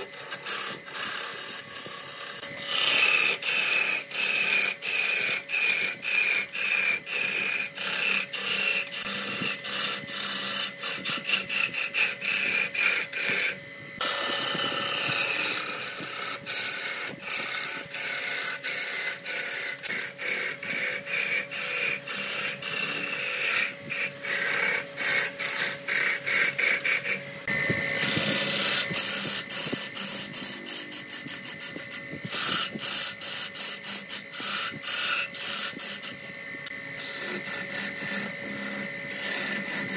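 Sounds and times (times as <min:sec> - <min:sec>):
lathe motor whine: 0:00.0 - 0:39.9
turning gouge scraping wood: 0:00.0 - 0:39.9.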